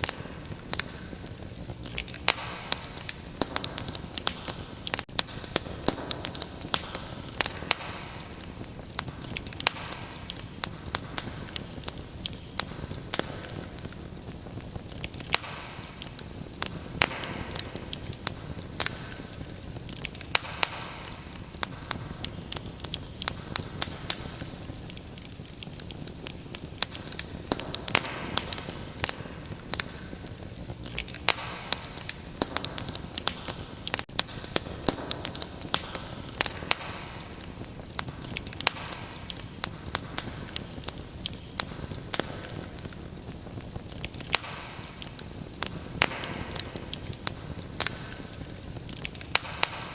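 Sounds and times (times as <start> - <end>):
low rumble of burning: 0.0 - 49.9
wood fire crackling and popping: 0.0 - 49.9.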